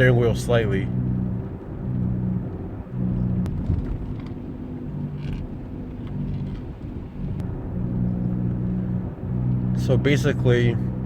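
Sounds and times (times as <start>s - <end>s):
road noise: 0.0s - 11.0s
wheel bearing droning hum: 0.0s - 11.0s.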